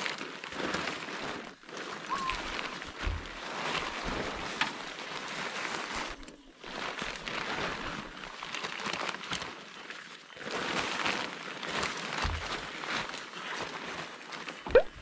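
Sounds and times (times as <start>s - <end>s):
tent fabric rustling: 0.0s - 15.0s.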